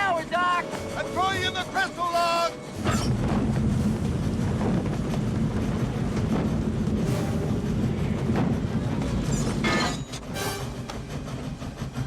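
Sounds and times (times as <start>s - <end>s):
film music: 0.0s - 12.0s
steam locomotive rumble and rail clatter: 0.0s - 12.0s.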